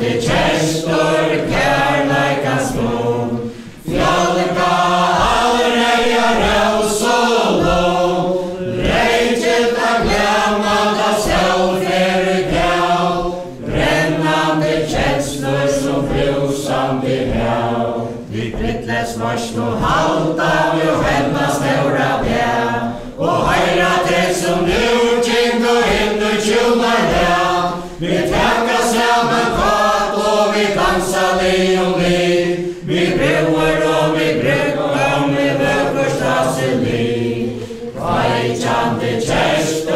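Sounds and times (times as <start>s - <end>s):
group singing unaccompanied: 0.0s - 39.9s
dancers' footsteps: 0.2s - 39.9s.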